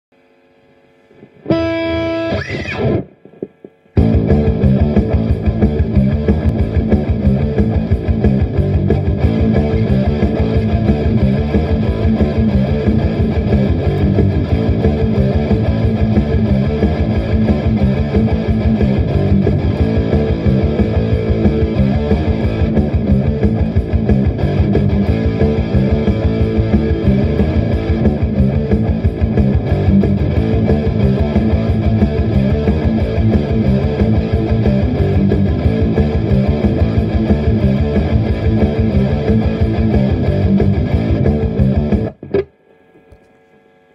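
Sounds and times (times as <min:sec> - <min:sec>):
distorted electric guitar riff: 0:00.2 - 0:43.3.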